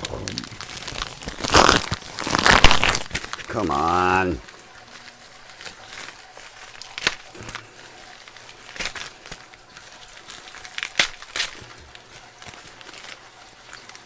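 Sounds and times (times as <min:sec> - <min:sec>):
packaging crackling and snapping: 0:00.0 - 0:14.0.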